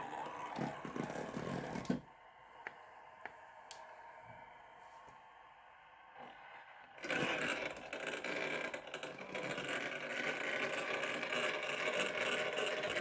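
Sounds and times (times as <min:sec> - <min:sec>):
electric motor and drivetrain whirring: 0:00.0 - 0:13.0.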